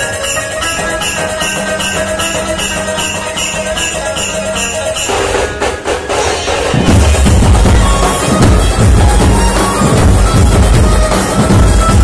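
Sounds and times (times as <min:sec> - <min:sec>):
banjo band music with percussion: 0:00.0 - 0:12.0
heavy deep drum beats: 0:00.8 - 0:12.0.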